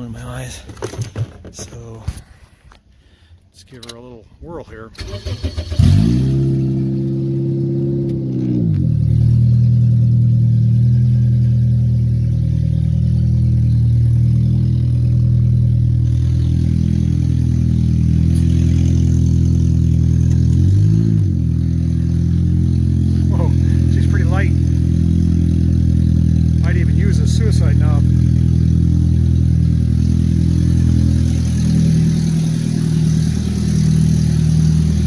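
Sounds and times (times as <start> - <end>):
car engine idling: 5.0 - 35.0
car engine revving: 5.0 - 35.0.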